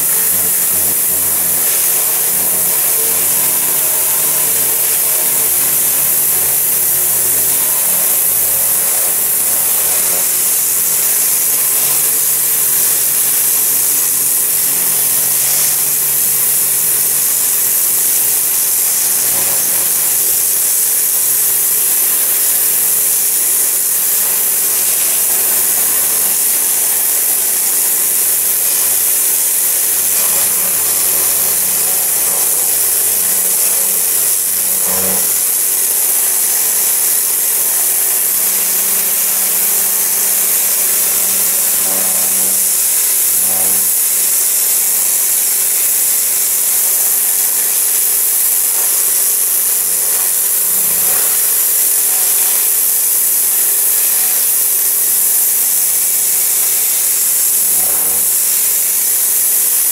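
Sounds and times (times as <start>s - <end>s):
high-pressure water jet hissing: 0.0s - 59.9s
pressure washer motor humming: 0.0s - 59.9s.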